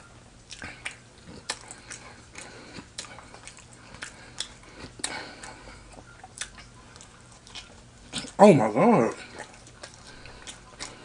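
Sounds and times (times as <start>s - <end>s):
chewing crunchy fries: 0.0s - 11.0s.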